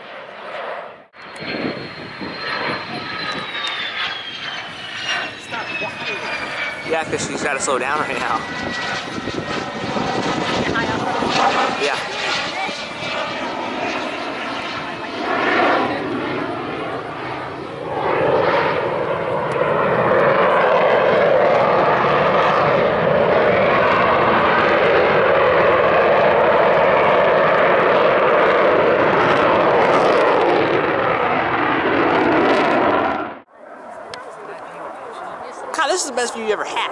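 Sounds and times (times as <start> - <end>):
fighter jet roar: 0.0 - 36.9.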